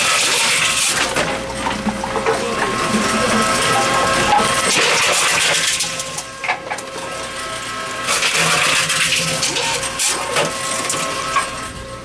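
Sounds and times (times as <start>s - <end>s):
machine rollers whirring: 0.0s - 12.0s.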